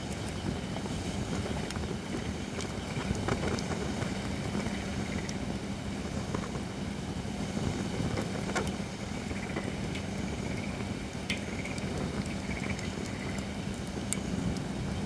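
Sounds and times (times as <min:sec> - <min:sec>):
low rumble of flames: 0:00.0 - 0:15.0.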